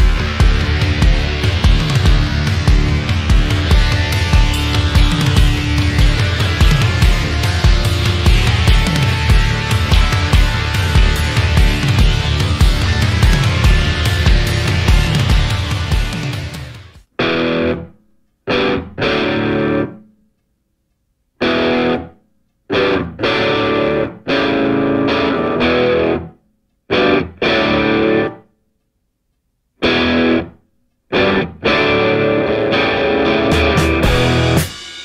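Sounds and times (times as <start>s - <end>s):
distorted electric guitar riffs: 0.0s - 20.2s, 21.4s - 28.5s, 29.8s - 35.0s.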